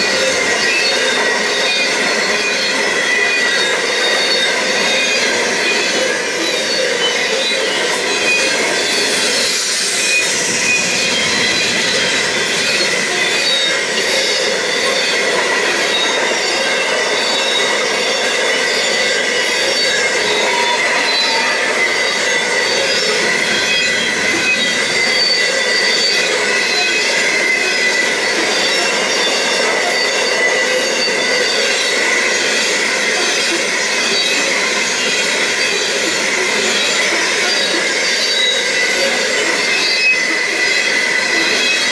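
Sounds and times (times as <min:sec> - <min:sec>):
high wheel squeal: 0:00.0 - 0:41.9
steel wheels rolling on rail: 0:00.0 - 0:41.9.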